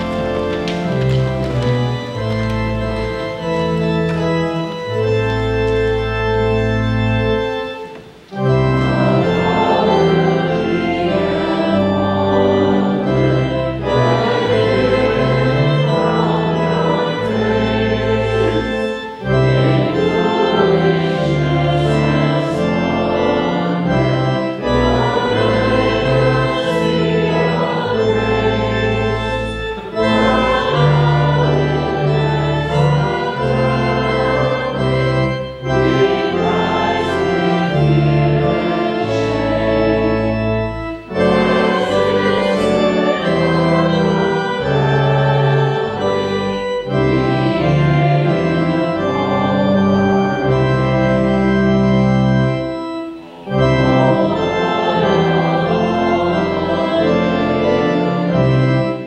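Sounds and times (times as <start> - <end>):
church organ playing a hymn: 0.0 - 59.0
voices singing: 8.6 - 50.9, 53.2 - 58.4.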